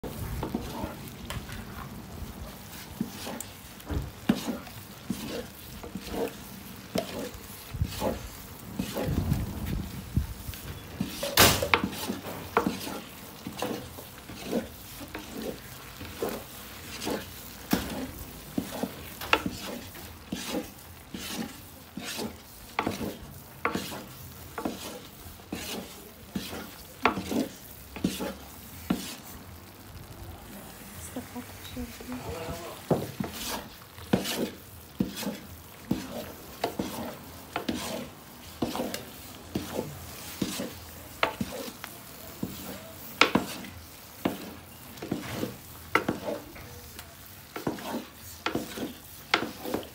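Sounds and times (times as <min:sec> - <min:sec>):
wooden spatula scraping a pot: 0:00.0 - 0:30.1, 0:30.8 - 0:49.9
hot fat sizzling: 0:00.0 - 0:49.9.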